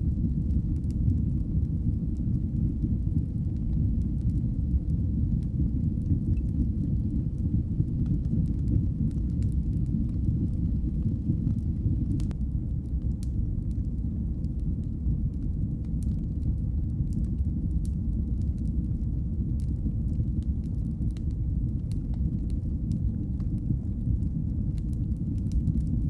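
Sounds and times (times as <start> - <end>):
fire crackles and pops: 0.0 - 26.0
fire rumbling in fireplace: 0.0 - 26.0.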